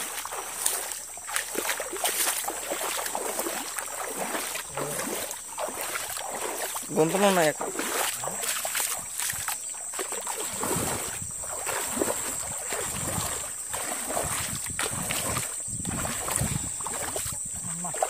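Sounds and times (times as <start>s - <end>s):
feet wading through water: 0.0s - 18.0s.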